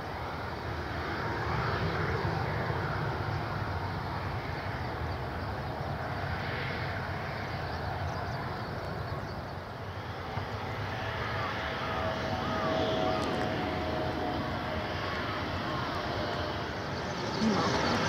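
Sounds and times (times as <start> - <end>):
jet engines on landing rollout: 0.0 - 18.0.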